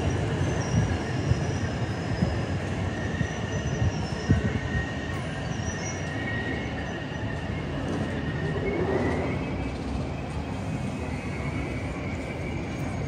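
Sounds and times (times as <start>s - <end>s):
train rail rumble: 0.0s - 13.0s
wheels squealing: 0.0s - 13.0s.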